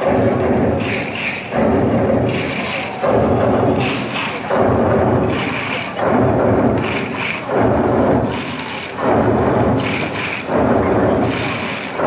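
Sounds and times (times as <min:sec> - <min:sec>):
massed drummers playing: 0:00.0 - 0:12.0.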